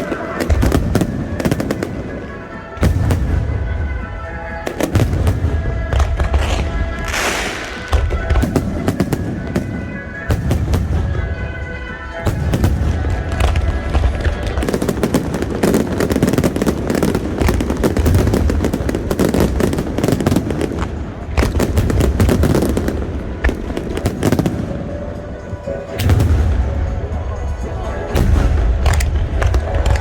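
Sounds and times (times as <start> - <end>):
deep fireworks booms: 0.0 - 30.0
fireworks bursts and crackling: 0.0 - 30.0.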